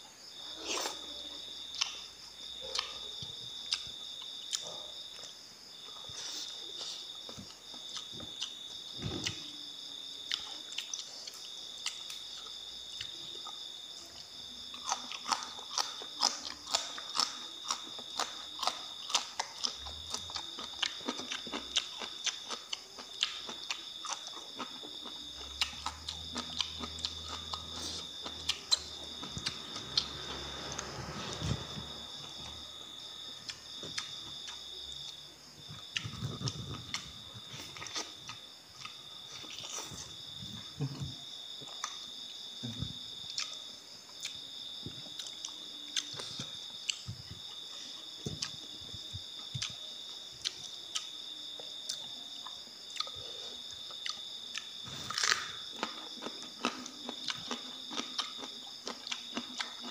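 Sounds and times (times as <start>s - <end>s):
high-pitched insect trill: 0.0s - 59.9s
wet chewing and crunching: 0.6s - 30.6s, 31.3s - 40.4s, 43.0s - 59.9s.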